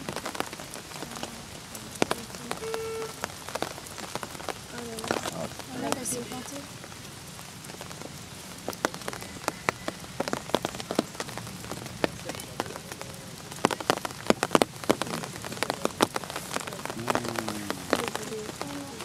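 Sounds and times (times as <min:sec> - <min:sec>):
rain hissing: 0:00.0 - 0:19.0
raindrops tapping a surface: 0:00.0 - 0:19.0.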